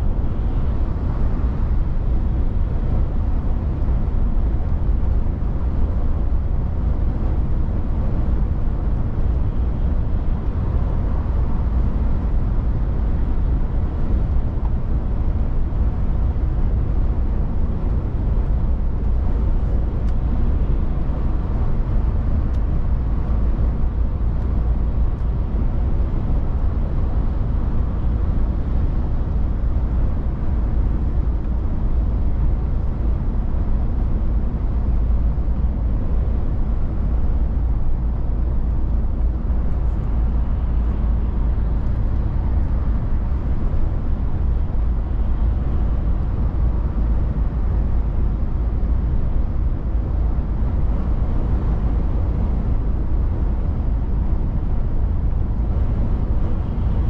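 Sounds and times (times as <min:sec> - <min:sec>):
truck diesel engine rumble: 0:00.0 - 0:57.0.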